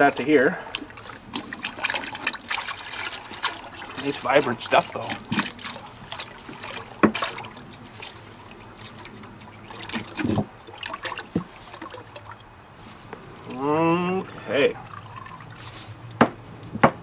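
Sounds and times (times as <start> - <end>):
liquid trickling and splashing: 0.0 - 17.0.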